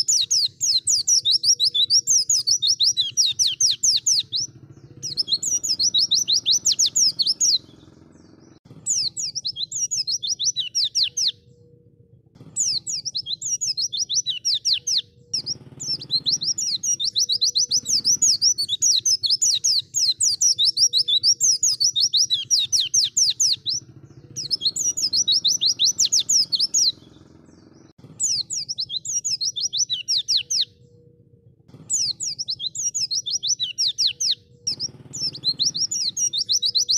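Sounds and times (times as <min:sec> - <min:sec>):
bird twittering: 0:00.0 - 0:36.9.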